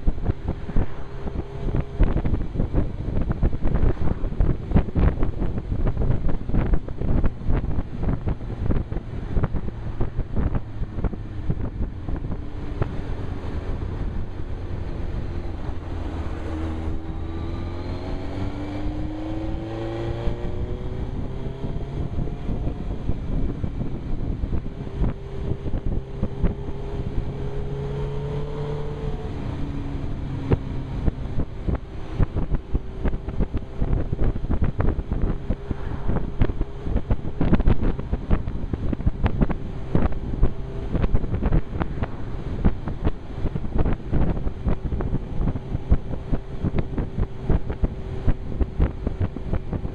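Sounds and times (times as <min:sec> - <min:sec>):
motorcycle engine: 0:00.0 - 0:49.9
wind buffeting microphone: 0:00.0 - 0:49.9.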